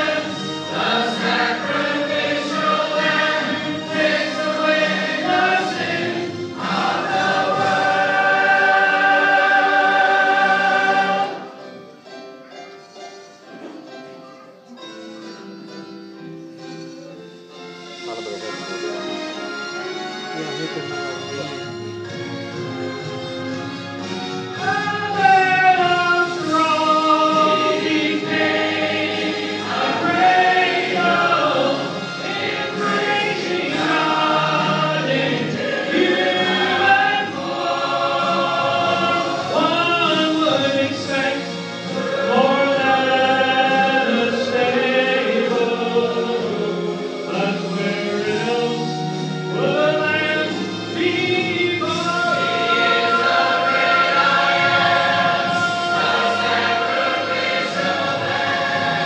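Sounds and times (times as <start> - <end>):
church choir singing: 0.0 - 14.0, 22.6 - 59.0.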